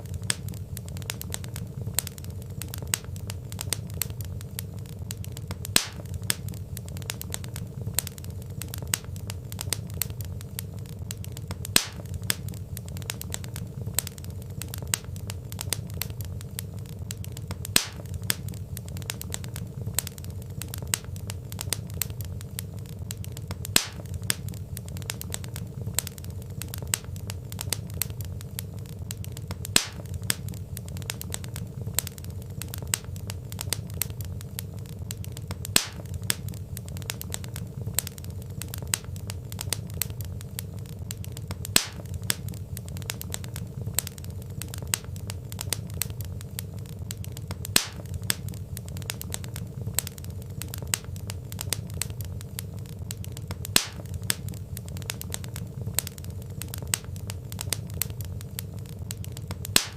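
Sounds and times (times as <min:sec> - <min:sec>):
loud pop from the fire: 0:00.0 - 0:59.9
low rumble of fire: 0:00.0 - 0:59.9
wood fire crackling: 0:00.0 - 0:59.9.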